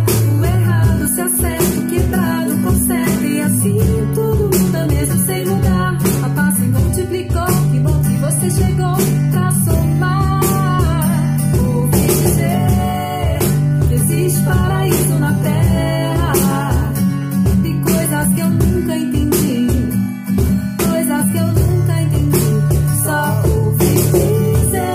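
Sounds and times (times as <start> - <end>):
cajon struck by hand: 0.0 - 24.9
pop song with singing and guitar: 0.0 - 24.9.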